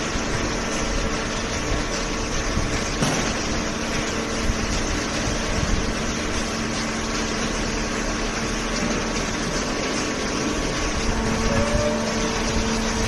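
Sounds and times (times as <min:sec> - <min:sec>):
baler machine hum: 0:00.0 - 0:13.0.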